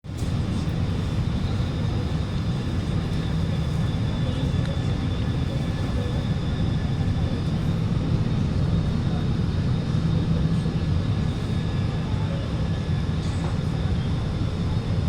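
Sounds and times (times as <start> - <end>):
train air-conditioning hum: 0.1 - 15.0.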